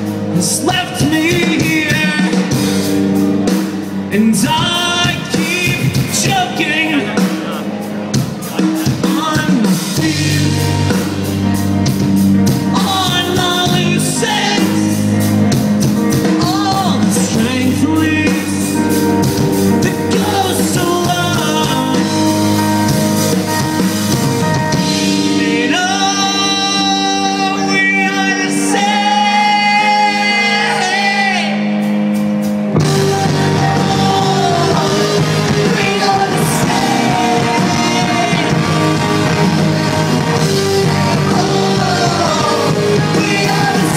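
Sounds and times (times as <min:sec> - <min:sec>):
live rock band playing: 0:00.0 - 0:43.9
man singing: 0:00.3 - 0:02.8, 0:04.1 - 0:07.8, 0:08.4 - 0:11.3, 0:12.6 - 0:15.3, 0:16.1 - 0:22.7, 0:25.0 - 0:31.8, 0:32.8 - 0:43.9.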